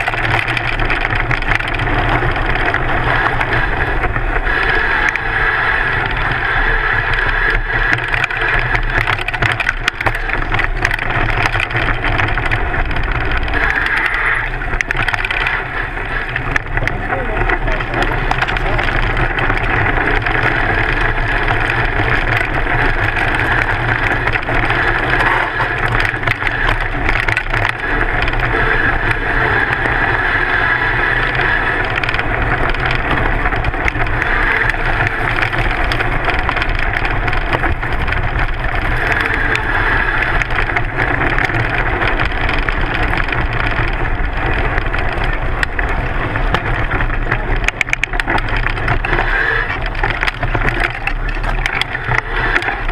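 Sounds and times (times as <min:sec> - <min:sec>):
bike tyre rumbling over dirt: 0:00.0 - 0:52.9.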